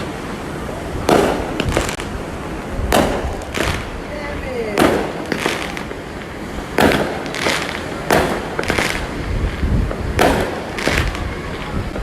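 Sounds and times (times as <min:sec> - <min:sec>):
fireworks bangs and crackling: 0:00.0 - 0:12.0
wind rumble: 0:00.0 - 0:12.0.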